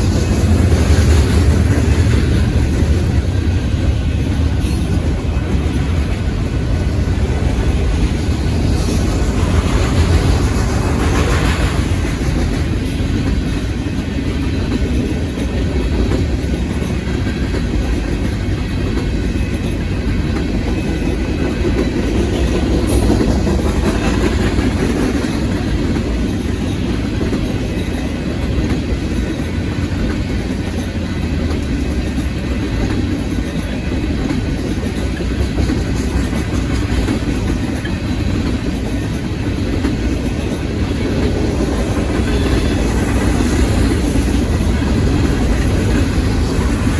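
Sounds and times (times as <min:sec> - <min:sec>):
clickety-clack of rail joints: 0:00.0 - 0:46.9
train wheels rumbling on rail: 0:00.0 - 0:46.9.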